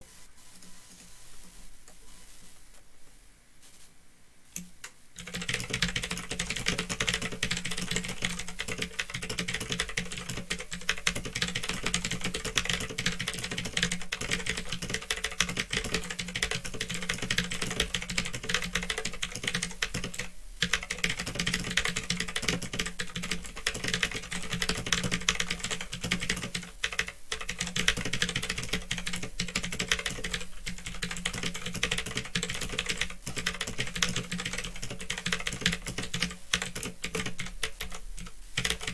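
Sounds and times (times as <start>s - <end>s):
mechanical keyboard typing: 4.6s - 38.9s.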